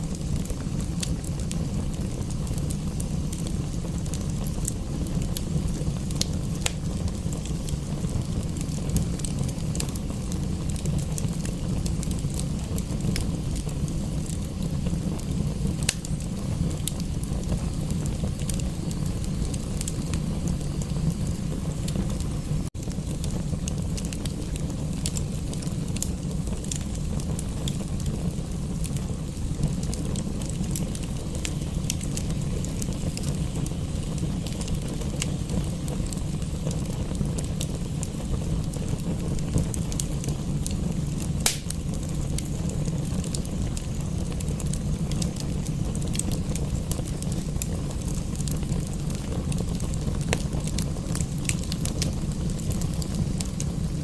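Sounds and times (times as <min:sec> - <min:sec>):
low rumble of fire: 0:00.0 - 0:54.0
wood fire crackling: 0:00.0 - 0:54.0.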